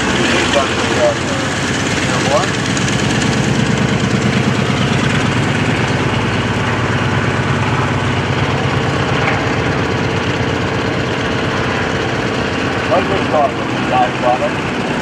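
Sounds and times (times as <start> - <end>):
small aircraft engines running: 0.0 - 15.0.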